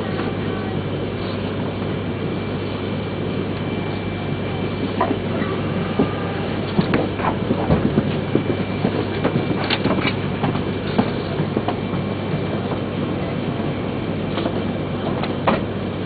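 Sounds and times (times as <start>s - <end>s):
low hum of standing train: 0.0s - 16.0s.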